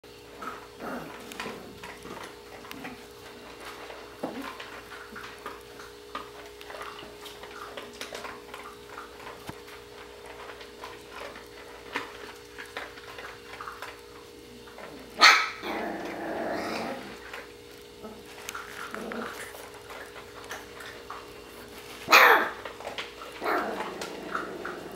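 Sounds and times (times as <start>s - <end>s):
puppies scuffling: 0.2s - 24.9s
puppies yipping and growling: 0.3s - 24.9s.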